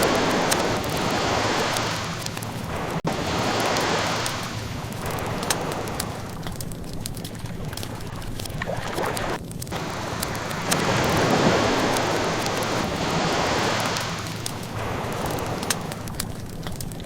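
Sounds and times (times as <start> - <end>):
ocean waves washing in: 0.0 - 17.0
wood fire crackling: 0.0 - 17.0.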